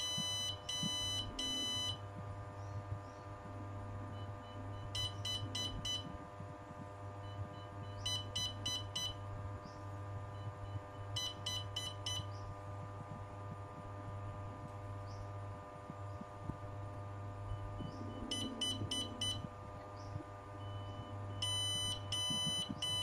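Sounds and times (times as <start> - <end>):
electronic buzzer beeping: 0.0 - 2.7, 4.1 - 14.3, 17.4 - 23.0
steady low hum: 0.0 - 23.0.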